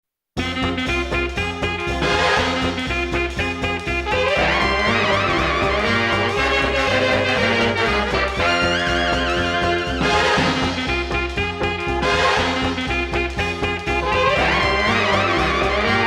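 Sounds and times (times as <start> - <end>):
upbeat swing music with brass: 0.4 - 16.0
wavering horn melody: 0.4 - 16.0.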